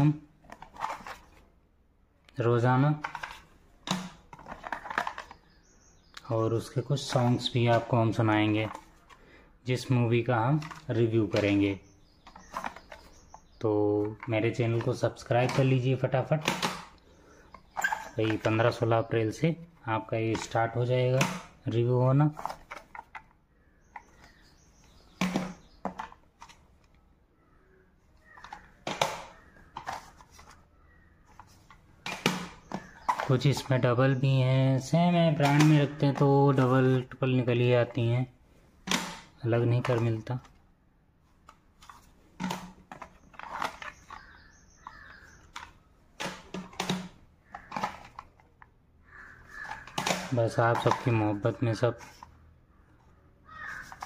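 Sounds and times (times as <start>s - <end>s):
plastic cassette cases clacking: 0.4s - 1.5s, 2.9s - 5.6s, 6.7s - 19.1s, 20.2s - 27.0s, 28.2s - 34.0s, 35.1s - 37.2s, 38.8s - 40.6s, 41.4s - 54.0s.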